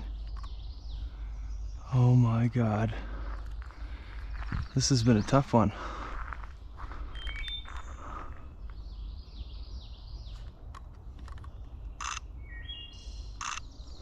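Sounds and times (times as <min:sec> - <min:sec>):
low rumble of wind: 0:00.0 - 0:14.0
songbirds singing: 0:00.0 - 0:14.0.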